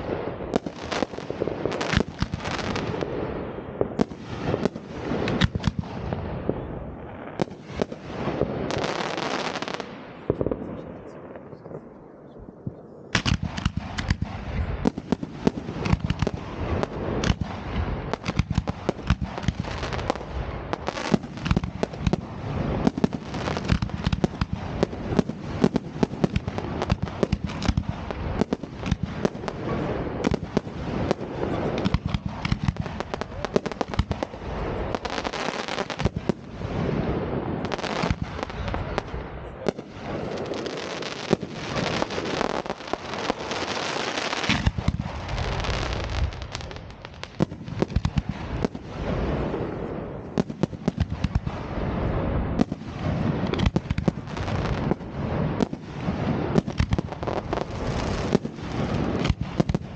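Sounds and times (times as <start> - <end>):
fireworks rapid bangs: 0.0 - 10.8, 13.1 - 59.9.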